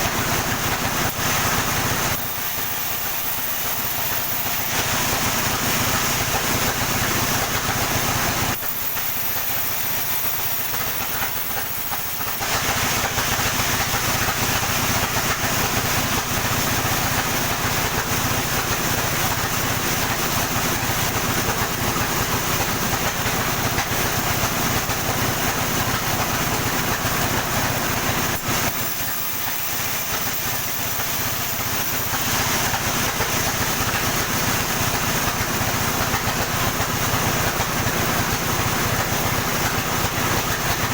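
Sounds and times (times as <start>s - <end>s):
sawmill sawing wood: 0.0s - 40.9s.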